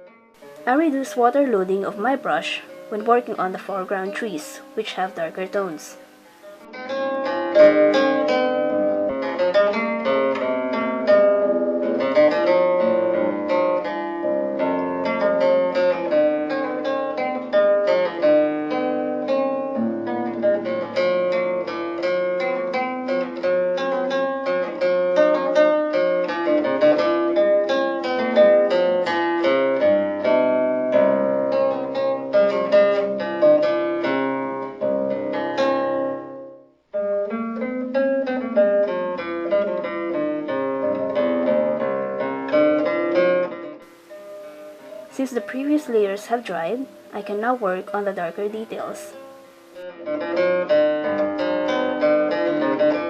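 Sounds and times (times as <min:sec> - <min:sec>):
plucked string music: 0:00.0 - 0:53.0.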